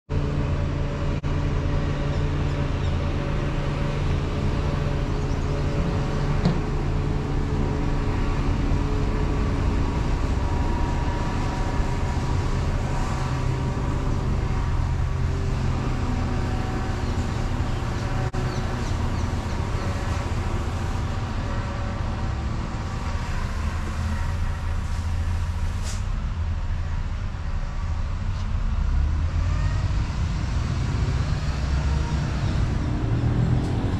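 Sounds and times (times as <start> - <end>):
traffic driving past: 0.1 - 33.9.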